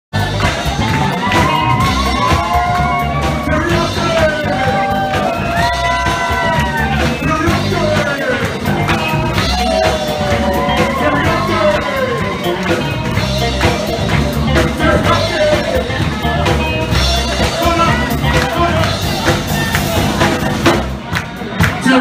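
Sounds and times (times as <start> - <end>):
live rock and roll band: 0.1 - 22.0
pulsing bass beat: 0.1 - 22.0
person singing: 0.3 - 20.5.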